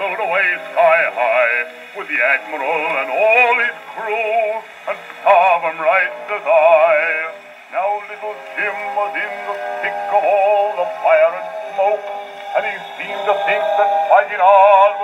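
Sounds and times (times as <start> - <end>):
man singing bass with vibrato: 0.0 - 15.0.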